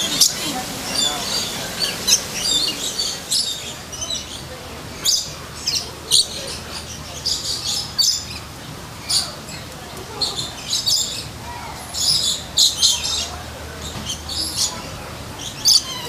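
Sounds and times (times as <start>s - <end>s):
lorikeets screeching: 0.0s - 16.0s.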